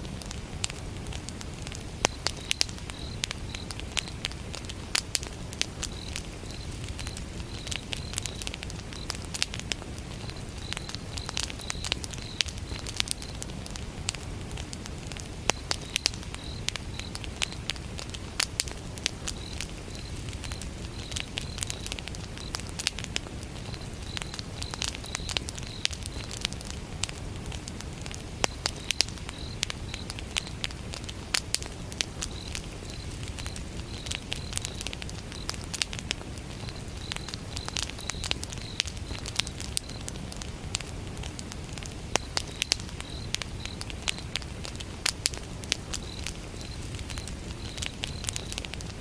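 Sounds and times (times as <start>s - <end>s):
fire crackling and popping: 0.0s - 49.0s
fire low rumble: 0.0s - 49.0s
crickets chirping: 1.6s - 49.0s.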